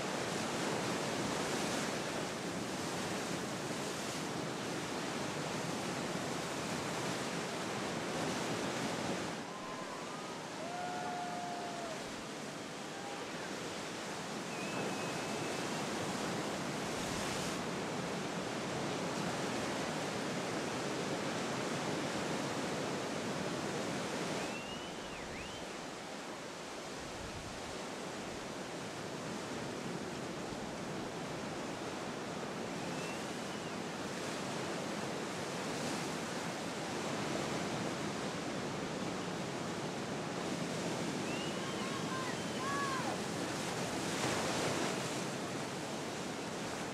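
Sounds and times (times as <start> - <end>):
ocean surf breaking: 0.0 - 21.0, 29.1 - 46.9.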